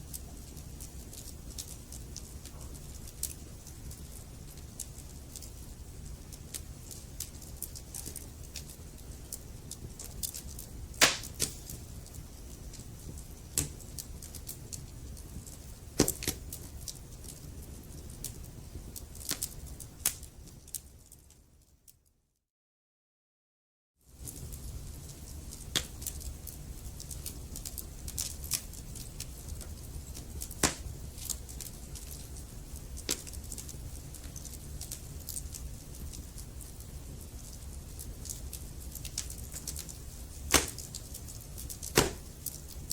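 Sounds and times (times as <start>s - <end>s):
burning logs popping: 0.0s - 20.8s, 24.2s - 42.9s
fire low rumble: 0.0s - 21.3s, 24.1s - 42.9s
fire crackling: 0.0s - 21.7s, 24.1s - 42.9s.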